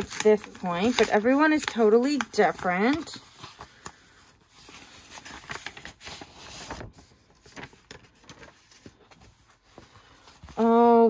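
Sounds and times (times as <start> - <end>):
paper envelope rustling: 0.0 - 11.0.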